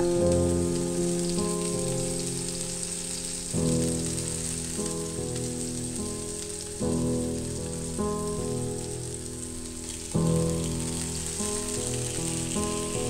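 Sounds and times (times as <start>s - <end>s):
music of held chords: 0.0s - 13.0s
tomatoes sizzling in a frying pan: 0.0s - 13.0s.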